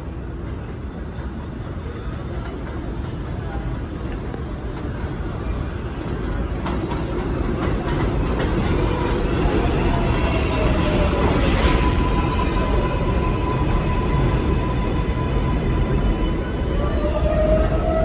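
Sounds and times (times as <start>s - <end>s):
subway train running on tracks: 0.0s - 18.0s.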